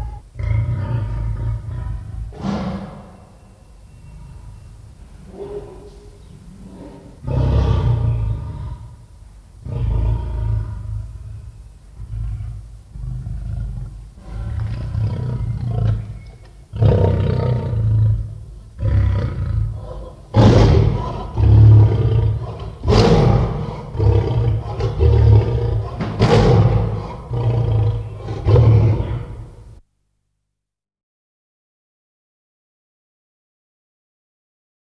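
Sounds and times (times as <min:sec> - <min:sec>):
lion roaring: 0:00.0 - 0:03.4, 0:04.0 - 0:09.0, 0:09.6 - 0:29.8.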